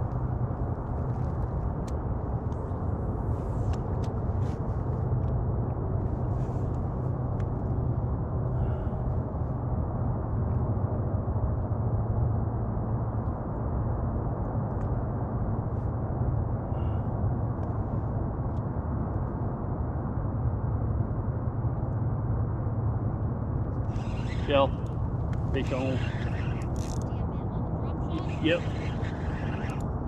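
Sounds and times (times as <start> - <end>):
low outdoor rumble: 0.0 - 30.0.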